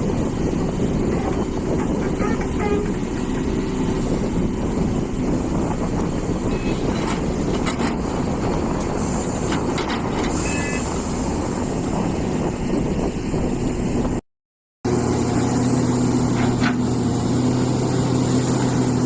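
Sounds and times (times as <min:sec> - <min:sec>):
excavator diesel engine running: 0:00.0 - 0:14.2, 0:14.9 - 0:19.0.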